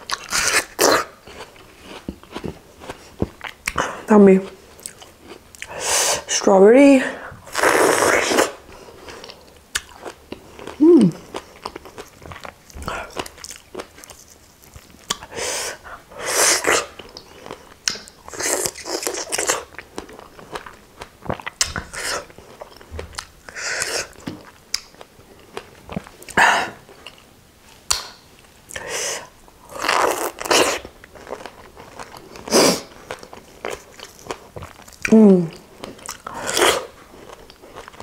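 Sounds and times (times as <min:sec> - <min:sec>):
biting and chewing strawberries: 0:00.0 - 0:05.8, 0:07.4 - 0:15.4, 0:16.2 - 0:27.3, 0:29.6 - 0:38.0.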